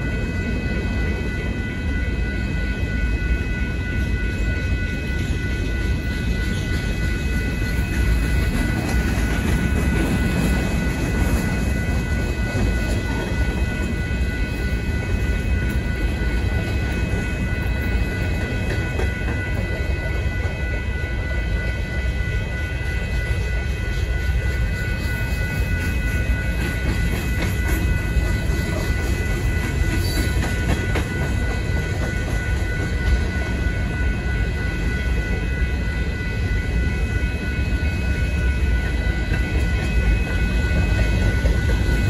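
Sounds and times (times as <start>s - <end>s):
freight train rumbling past: 0.0s - 42.0s
steady high-pitched tones: 0.0s - 42.0s.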